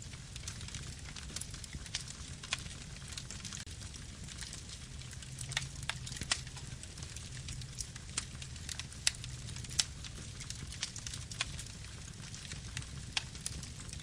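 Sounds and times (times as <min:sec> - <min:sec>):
burning wood crackling: 0:00.0 - 0:14.0
low rumble of flame: 0:00.0 - 0:14.0.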